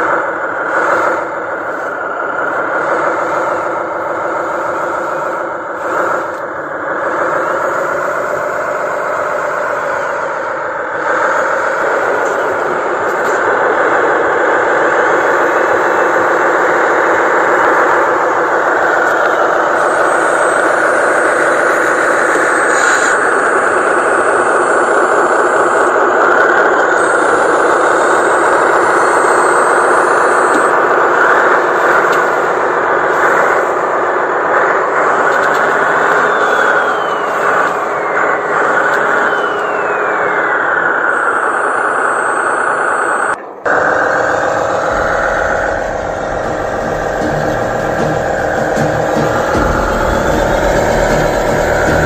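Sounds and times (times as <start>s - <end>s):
deeper hum: 0.0s - 52.0s
model truck engine running: 0.0s - 52.0s.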